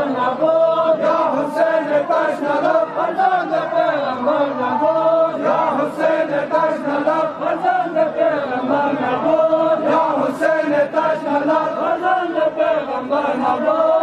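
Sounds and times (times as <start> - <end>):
crowd of men chanting: 0.0 - 14.0.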